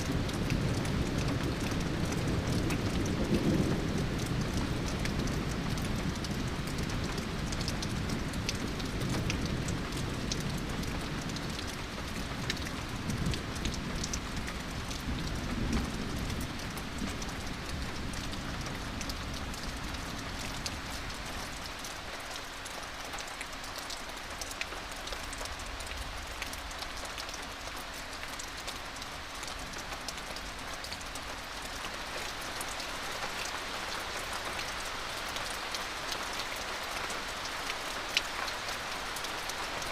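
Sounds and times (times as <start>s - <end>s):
heavy rain falling: 0.0s - 39.9s
raindrops ticking: 0.0s - 39.9s.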